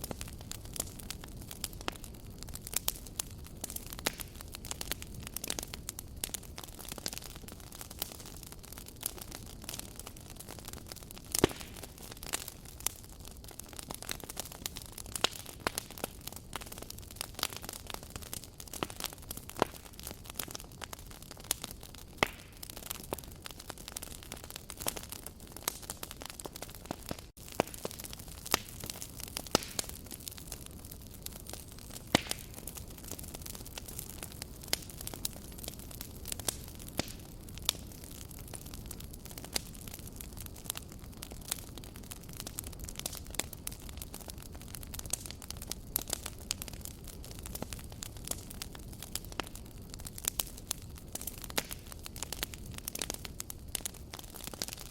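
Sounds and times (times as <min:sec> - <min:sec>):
burning wood popping and snapping: 0:00.0 - 0:54.9
campfire hissing: 0:00.0 - 0:54.9.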